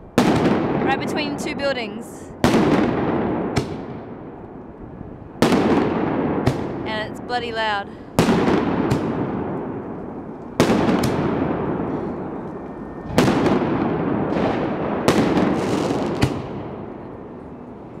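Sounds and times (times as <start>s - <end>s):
fireworks bangs echoing: 0.1s - 1.6s, 2.2s - 4.4s, 5.4s - 17.2s.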